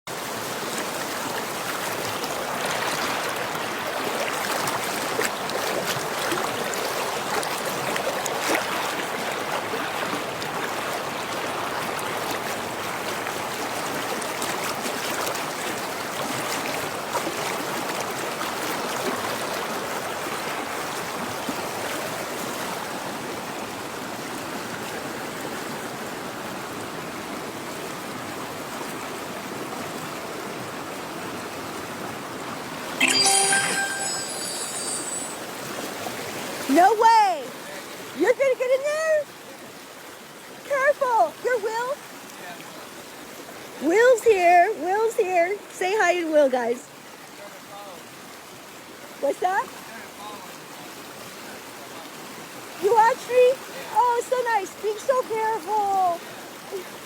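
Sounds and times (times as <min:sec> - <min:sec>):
stream flowing over rocks: 0:00.1 - 0:57.0.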